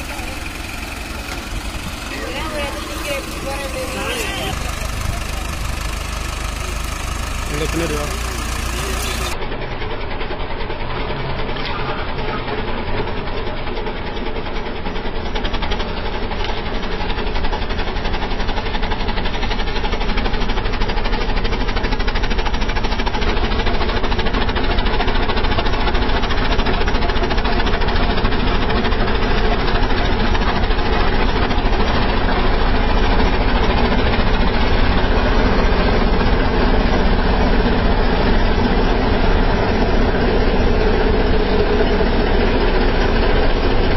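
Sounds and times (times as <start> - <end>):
tractor engines running under load: 0.0 - 43.9.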